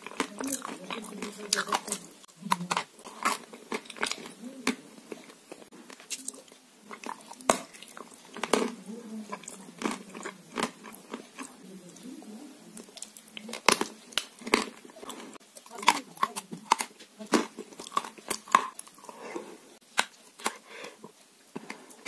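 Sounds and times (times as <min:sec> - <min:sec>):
crunchy bites: 0:00.0 - 0:11.6, 0:12.8 - 0:19.0.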